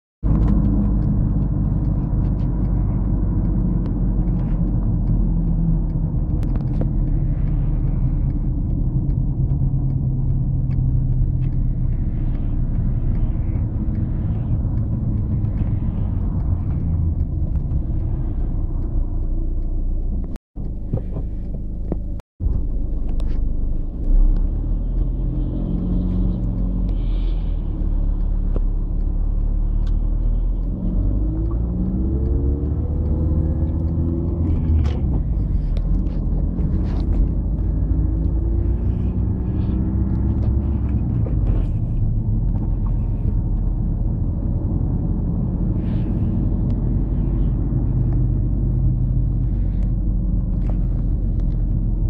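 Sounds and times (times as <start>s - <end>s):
car engine and tyres rumbling: 0.2s - 52.0s.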